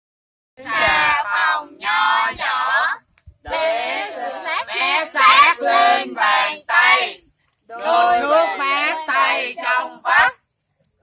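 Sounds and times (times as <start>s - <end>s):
young voices singing in unison: 0.6s - 10.4s.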